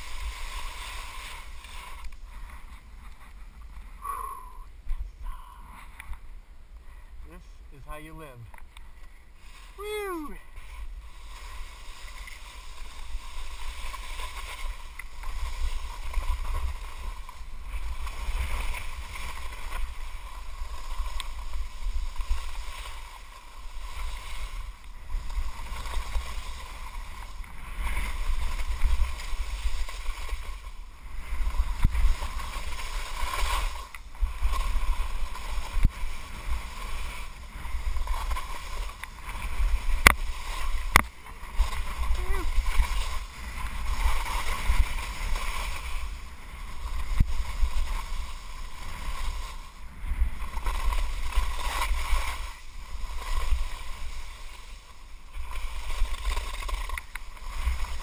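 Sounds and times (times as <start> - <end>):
skis hissing and scraping on snow: 0.0 - 58.0
wind rumbling on microphone: 0.0 - 58.0.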